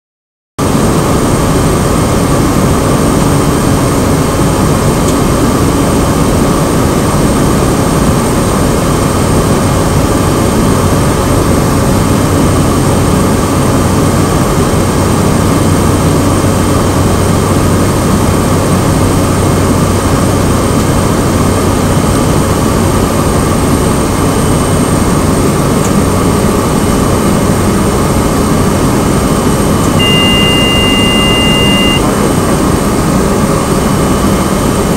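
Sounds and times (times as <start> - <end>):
high engine whine: 0.6 - 34.9
turboprop engine drone: 0.6 - 34.9.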